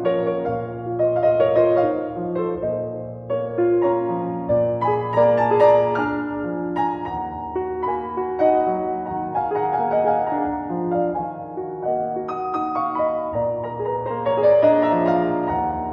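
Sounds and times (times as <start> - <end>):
piano music: 0.0 - 15.9.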